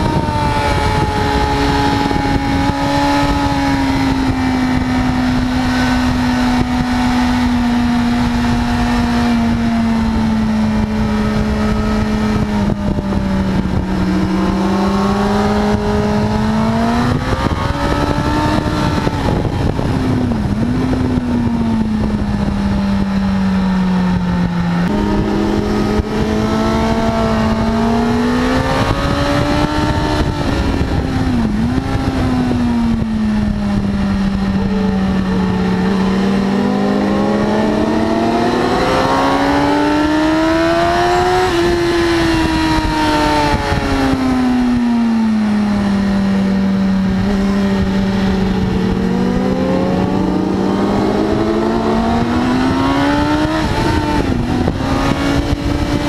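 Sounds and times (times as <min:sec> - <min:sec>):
motorcycle engine running hard: 0:00.0 - 0:56.0
rushing wind noise: 0:00.0 - 0:56.0.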